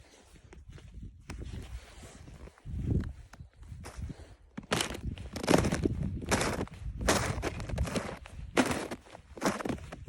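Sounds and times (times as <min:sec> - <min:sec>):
footsteps crunching through snow: 0:00.0 - 0:10.0.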